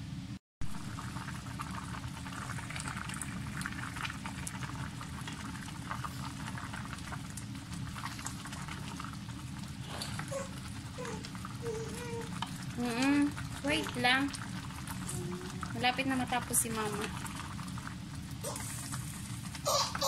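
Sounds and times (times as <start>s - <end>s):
steady low hum: 0.0s - 20.0s
soup boiling and bubbling: 0.6s - 20.0s.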